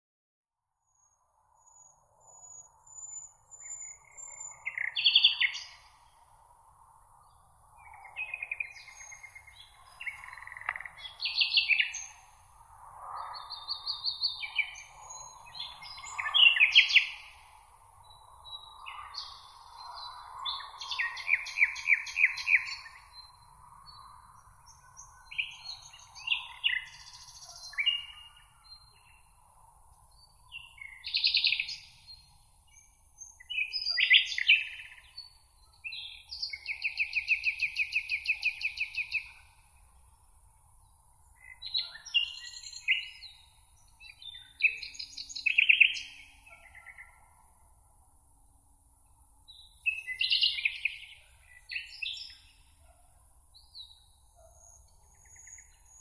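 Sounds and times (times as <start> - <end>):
songbirds singing: 0.9 - 56.0.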